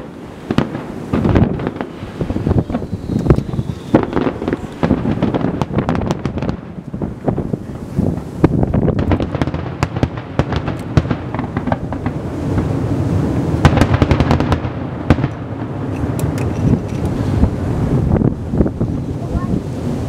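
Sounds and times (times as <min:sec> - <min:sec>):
fireworks crackling pops: 0:00.0 - 0:19.6.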